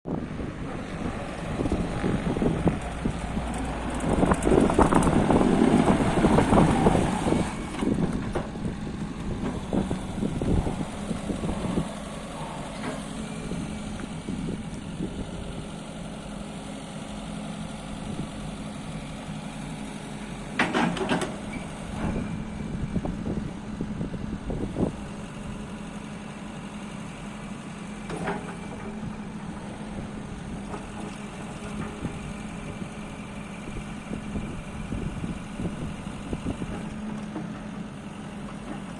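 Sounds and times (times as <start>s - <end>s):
excavator diesel engine running: 0.1s - 38.9s.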